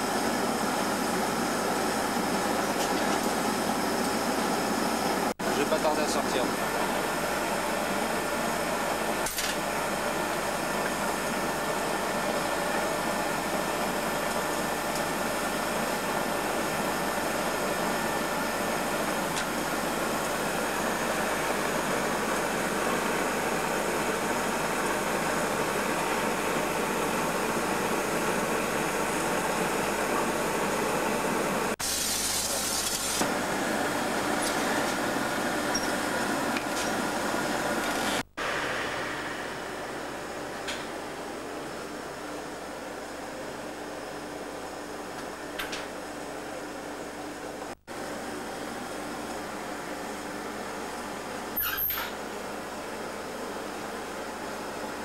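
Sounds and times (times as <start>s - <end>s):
furnace burner and blower: 0.0s - 55.0s.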